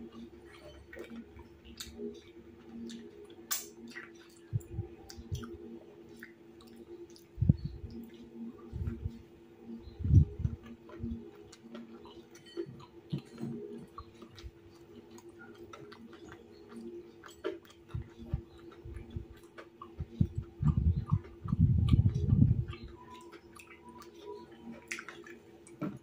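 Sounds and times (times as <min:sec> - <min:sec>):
chewing crispy food: 0:00.0 - 0:26.0
steady low hum: 0:00.0 - 0:26.0.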